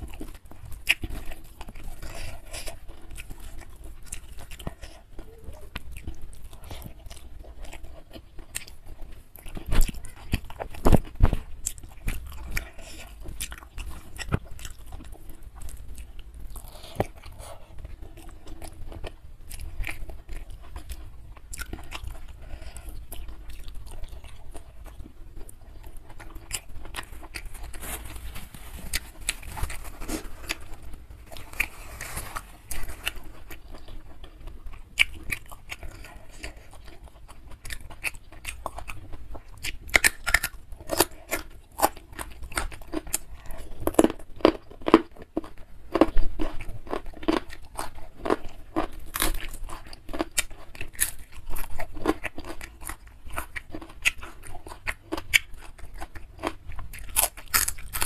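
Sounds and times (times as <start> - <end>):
close chewing with wet smacking: 0.0 - 27.8, 32.5 - 58.0.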